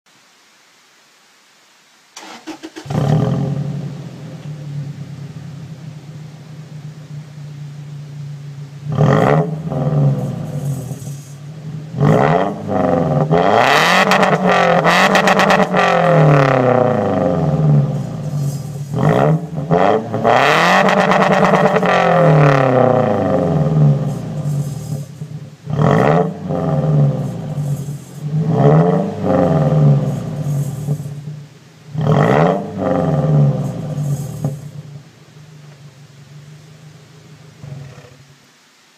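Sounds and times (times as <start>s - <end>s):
rattle inside muffler: 2.2s - 38.6s
car engine idling and revving: 2.4s - 38.4s.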